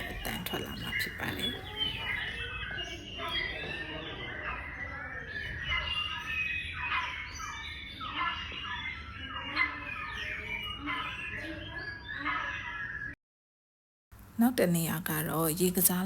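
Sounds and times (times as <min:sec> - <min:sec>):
bird chirps and squawks: 0:00.0 - 0:13.2.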